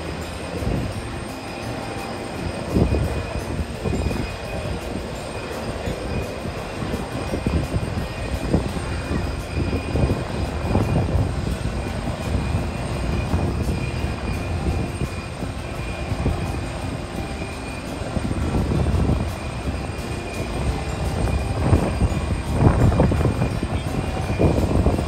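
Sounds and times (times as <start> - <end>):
high engine whine: 0.0 - 25.0
jet engines rumbling: 0.0 - 25.0.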